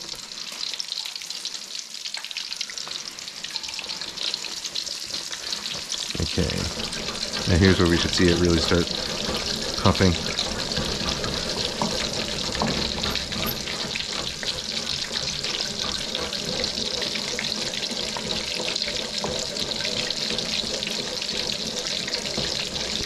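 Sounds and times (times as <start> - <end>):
cutlet sizzling in hot oil: 0.0 - 23.0.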